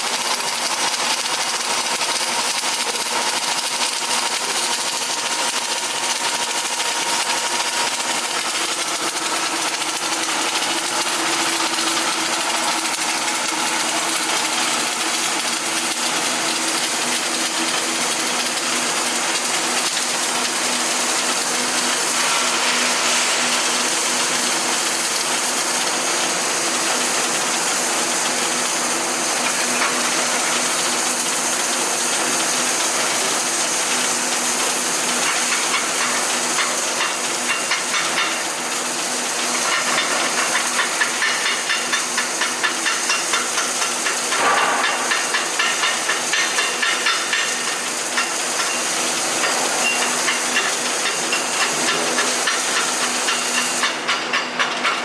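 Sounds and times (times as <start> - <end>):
welding arc hissing: 0.0 - 55.0.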